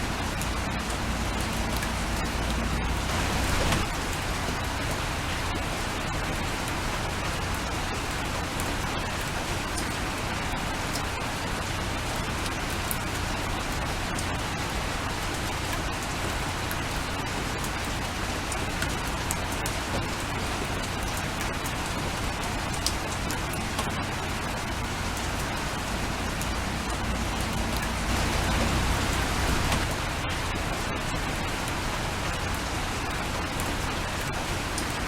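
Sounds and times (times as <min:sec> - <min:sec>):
raindrops ticking: 0:00.0 - 0:35.0
steady rain: 0:00.0 - 0:35.0.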